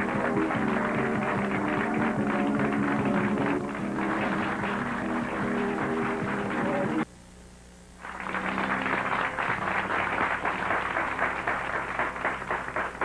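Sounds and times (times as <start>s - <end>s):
audience applauding: 0.0s - 7.1s, 8.0s - 13.0s.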